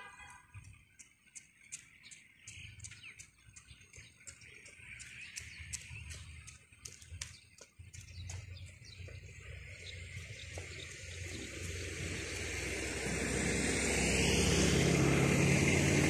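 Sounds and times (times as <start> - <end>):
small birds chirping: 0.4 - 13.2.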